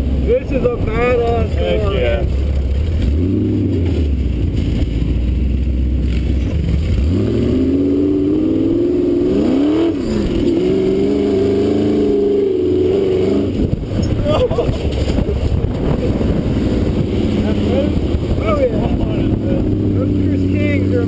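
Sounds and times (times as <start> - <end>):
dune buggy engine revving: 0.0 - 21.0.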